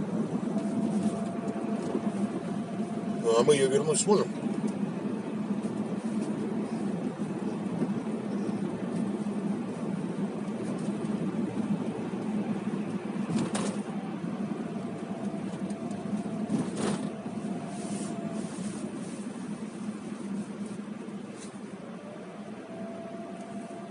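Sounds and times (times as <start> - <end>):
car engine hum in cabin: 0.0 - 23.9.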